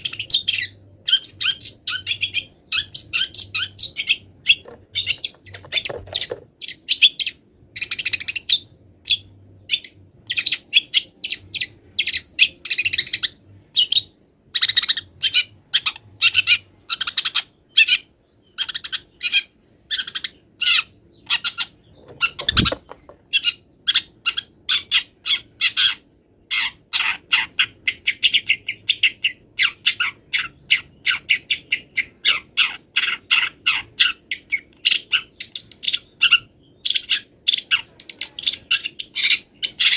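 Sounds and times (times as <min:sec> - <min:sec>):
shrike singing chirps and trills: 0:00.0 - 0:39.9.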